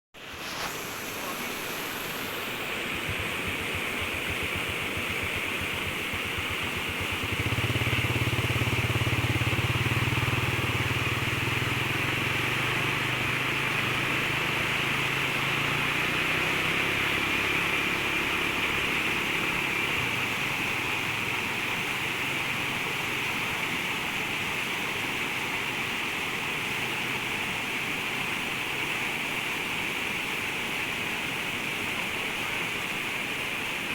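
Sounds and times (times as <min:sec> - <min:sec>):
floodwater rushing: 0:00.2 - 0:33.9
engine low hum: 0:02.4 - 0:29.7.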